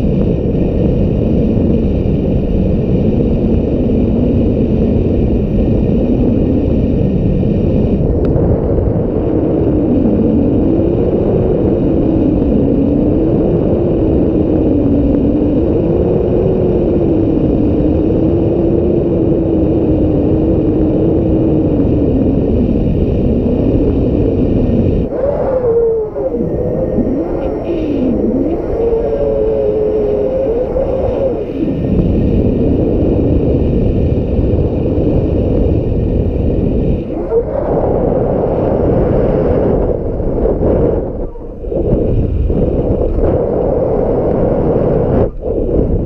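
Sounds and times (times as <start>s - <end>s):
faint howling wind tone: 0.0s - 46.0s
wind buffeting microphone: 0.0s - 46.0s.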